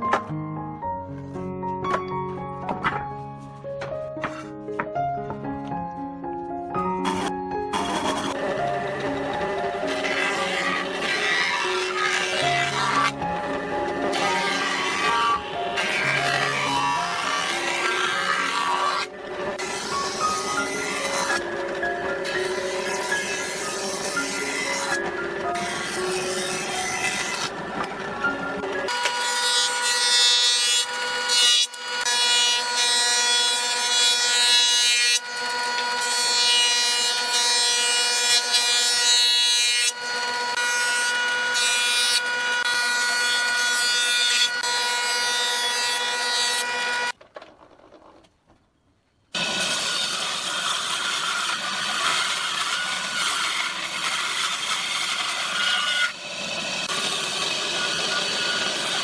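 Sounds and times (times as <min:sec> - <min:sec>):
power tool motor whine: 0:07.0 - 0:33.8, 0:34.9 - 0:38.6, 0:39.9 - 0:47.2, 0:49.4 - 0:59.0
rough wood cutting noise: 0:07.0 - 0:47.2, 0:49.3 - 0:59.0.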